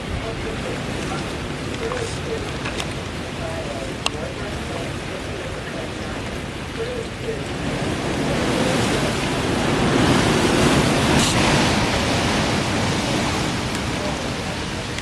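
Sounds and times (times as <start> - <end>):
rain: 0.0 - 15.0
strong wind gust buffeting microphone: 0.0 - 15.0.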